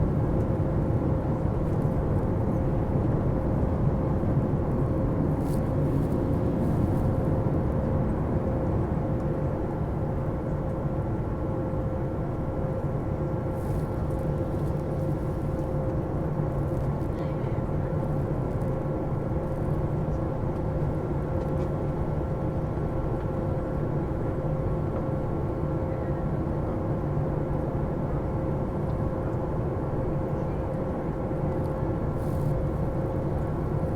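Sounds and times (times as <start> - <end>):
jet engine drone in cabin: 0.0 - 33.9.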